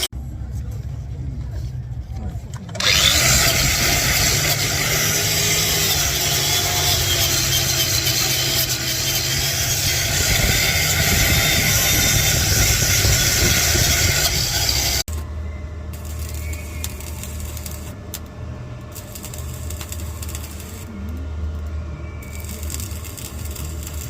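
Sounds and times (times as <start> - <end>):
engine running: 2.6 - 24.0.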